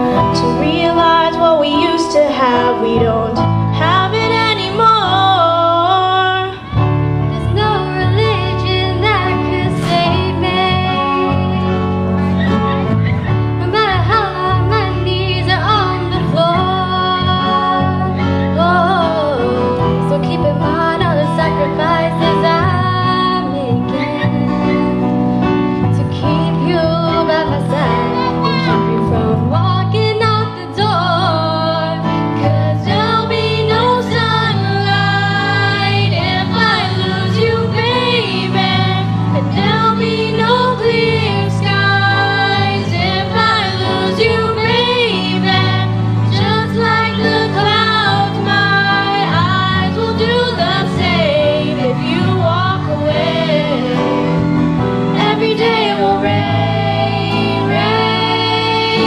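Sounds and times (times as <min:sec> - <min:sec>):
acoustic guitar: 0:00.0 - 0:59.0
girls singing pop ballad: 0:00.0 - 0:59.0
keyboard chords: 0:00.0 - 0:59.0.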